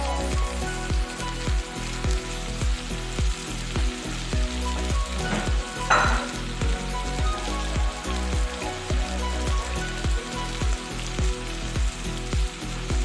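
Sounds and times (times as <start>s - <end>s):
background music with steady beat: 0.0s - 13.0s
food sizzling in frying pan: 0.0s - 13.0s.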